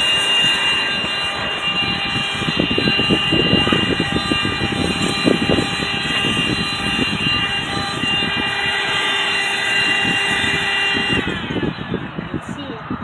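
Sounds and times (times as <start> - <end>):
handheld vacuum whining: 0.0 - 12.7.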